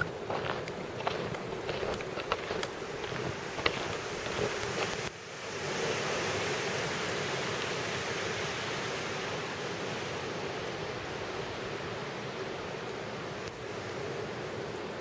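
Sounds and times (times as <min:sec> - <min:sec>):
wind rushing through treetops: 0:00.0 - 0:15.0.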